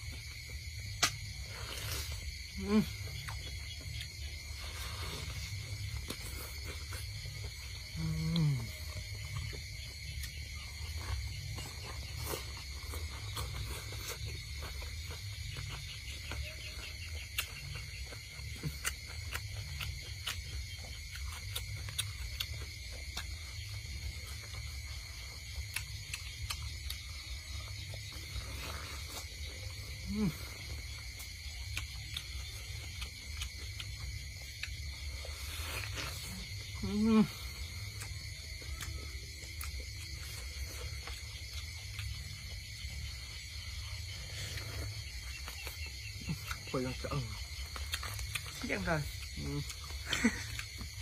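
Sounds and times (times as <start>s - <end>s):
high insect drone: 0.0s - 51.0s
man chewing meat: 0.0s - 51.0s.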